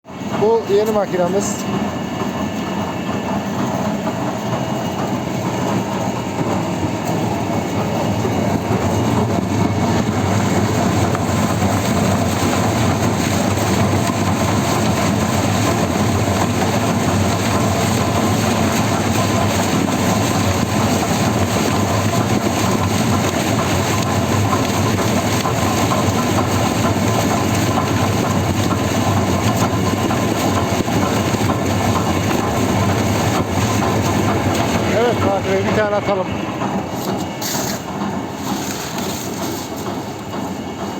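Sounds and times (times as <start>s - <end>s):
industrial machine rumbling and clattering: 0.0s - 40.9s.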